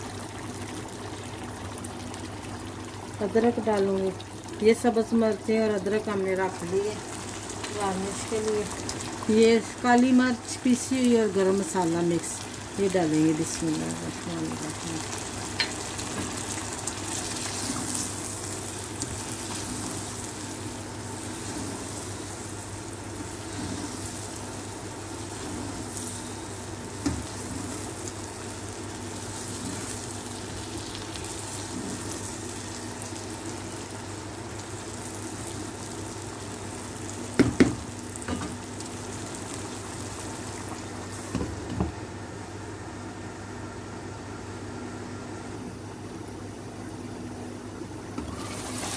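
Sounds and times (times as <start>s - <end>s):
curry sizzling and bubbling: 0.0s - 42.9s, 45.1s - 48.9s.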